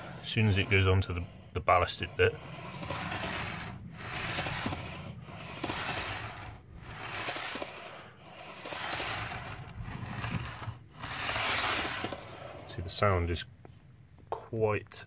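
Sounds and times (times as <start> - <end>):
model train wheels rolling on rails: 0.0 - 13.4.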